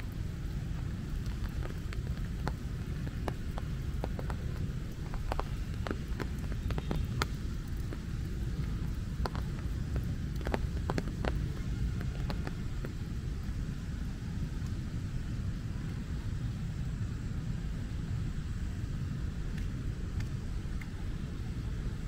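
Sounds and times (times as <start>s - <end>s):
raindrops tapping on umbrella: 0.0s - 16.0s, 19.3s - 22.0s
steady low rumble: 0.0s - 22.0s.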